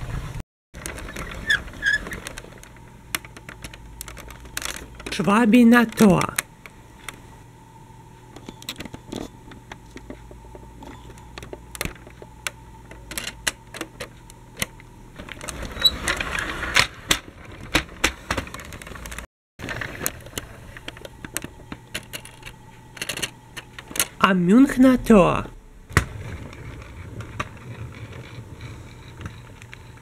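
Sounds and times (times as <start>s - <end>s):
faint steady hum: 0.8s - 30.0s.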